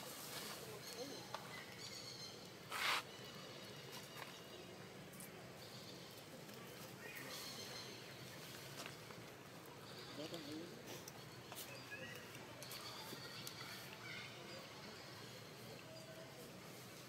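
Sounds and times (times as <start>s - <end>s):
quiet outdoor background noise: 0.0s - 17.0s.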